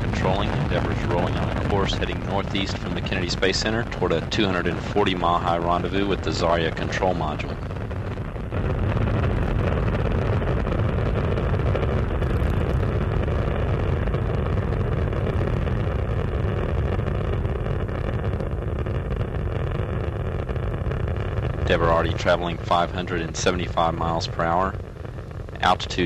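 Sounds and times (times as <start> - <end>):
rocket engines rumbling: 0.0 - 26.0.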